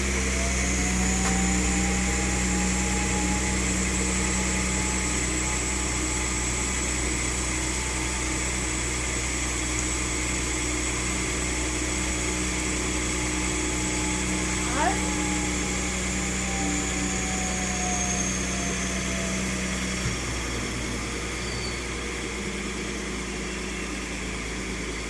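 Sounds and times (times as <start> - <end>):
faint whine rising in pitch: 0.0 - 9.2, 13.0 - 25.0
truck engine idling: 0.0 - 25.0.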